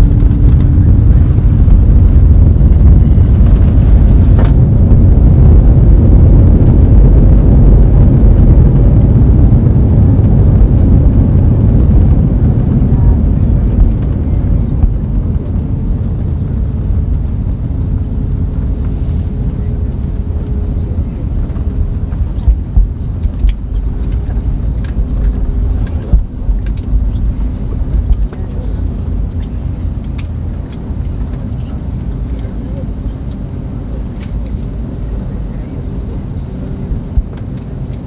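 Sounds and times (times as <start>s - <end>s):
jet engine roar in cabin: 0.0s - 38.0s.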